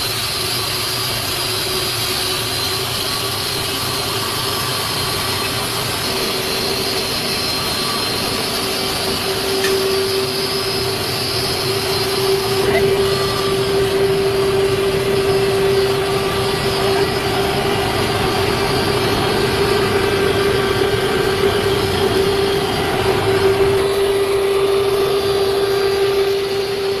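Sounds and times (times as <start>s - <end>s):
grinder machine running: 0.0s - 27.0s.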